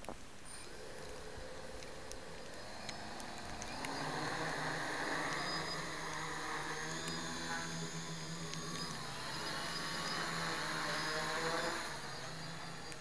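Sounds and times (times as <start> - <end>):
quadcopter motors humming: 0.0 - 13.0.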